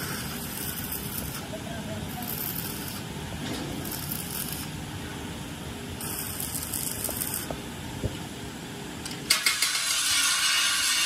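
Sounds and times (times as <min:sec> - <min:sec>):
workshop noise: 0:00.0 - 0:11.0.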